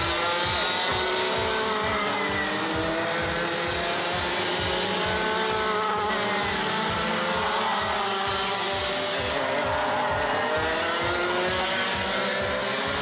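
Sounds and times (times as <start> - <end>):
racing kart engines: 0.0 - 13.0.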